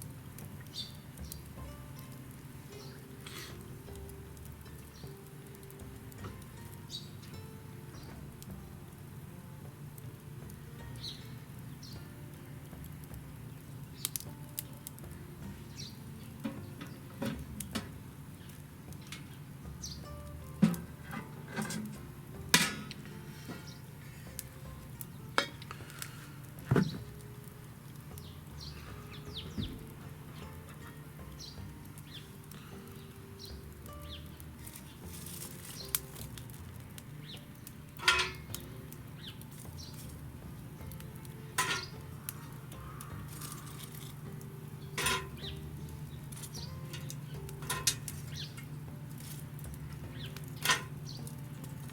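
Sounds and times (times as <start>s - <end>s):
small birds chirping: 0.0s - 8.4s, 10.4s - 21.0s, 23.3s - 51.9s.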